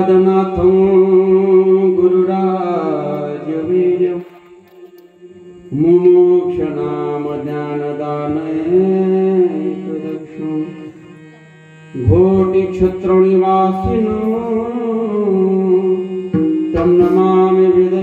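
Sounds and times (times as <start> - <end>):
faint steady drone: 0.0 - 18.0
man singing devotional notes: 0.0 - 18.0.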